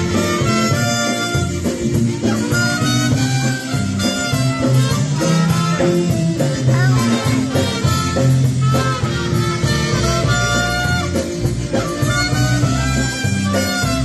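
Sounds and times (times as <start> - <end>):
polka band playing: 0.0 - 14.0.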